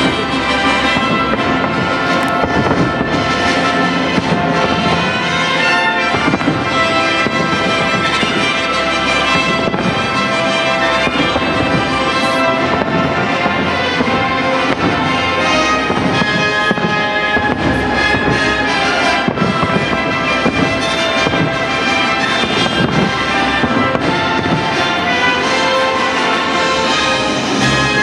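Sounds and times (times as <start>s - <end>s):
fireworks bursting: 0.0s - 28.0s
loud music: 0.0s - 28.0s.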